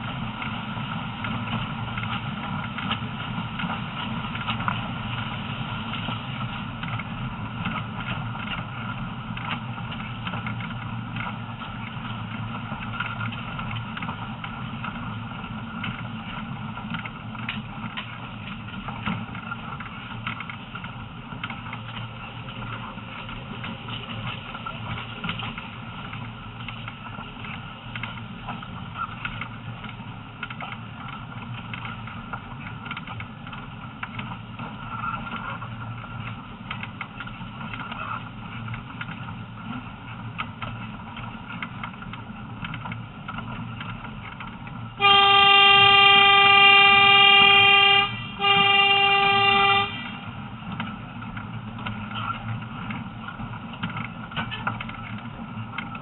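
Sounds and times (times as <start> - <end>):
train rumble from on board: 0.0 - 56.0
wheels clicking on track: 0.0 - 56.0.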